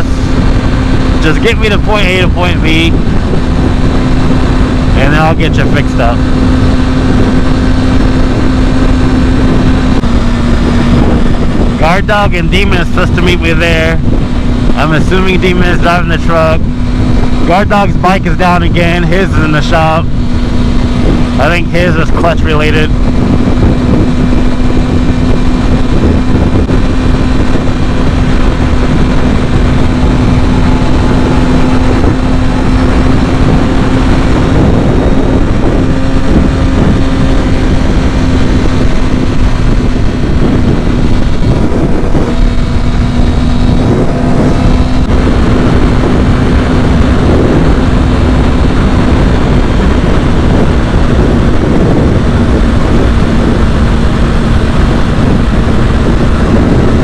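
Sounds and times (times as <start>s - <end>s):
motorcycle engine cruising: 0.0s - 57.0s
wind noise on microphone: 0.0s - 57.0s.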